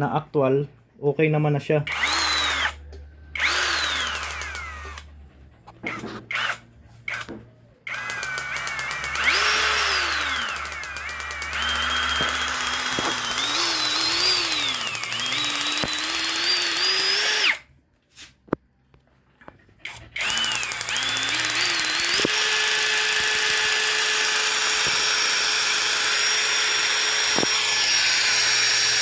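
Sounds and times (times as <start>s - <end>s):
electric drill motor whine: 1.9s - 5.1s, 5.9s - 17.7s, 19.9s - 29.0s.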